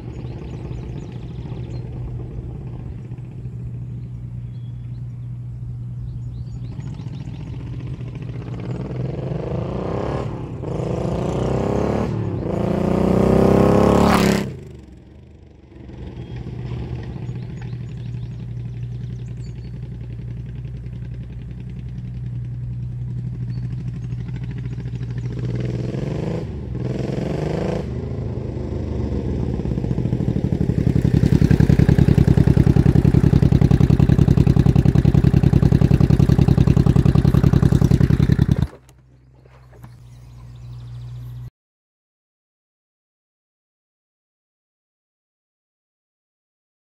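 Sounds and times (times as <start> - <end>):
motorcycle engine revving: 0.0 - 41.5.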